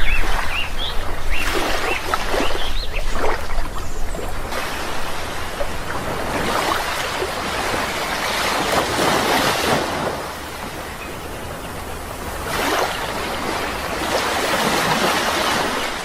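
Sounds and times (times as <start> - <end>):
sea waves rushing onto shore: 0.0 - 16.0.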